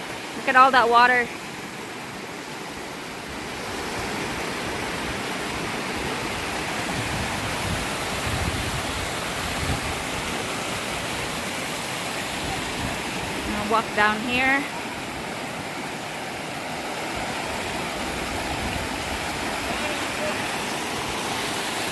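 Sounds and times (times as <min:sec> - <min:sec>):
creek water rushing: 0:00.0 - 0:21.9.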